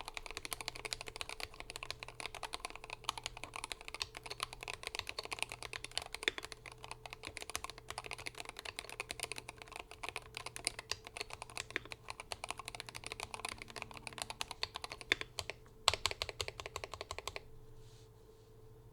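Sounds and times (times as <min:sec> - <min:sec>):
rapid keyboard typing: 0:00.0 - 0:17.5.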